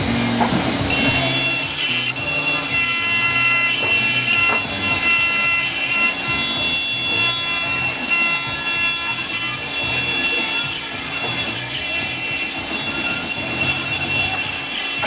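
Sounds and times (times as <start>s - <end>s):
milling spindle whining: 0.0s - 15.0s.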